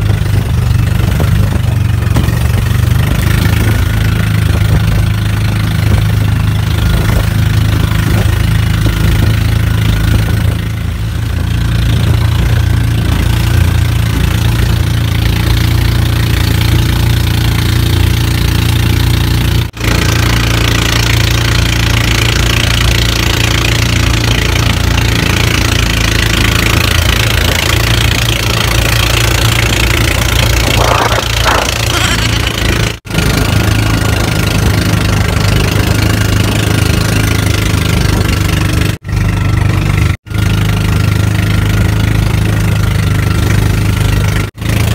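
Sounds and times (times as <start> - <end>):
small boat engine droning: 0.0 - 44.9
wind: 0.0 - 44.9.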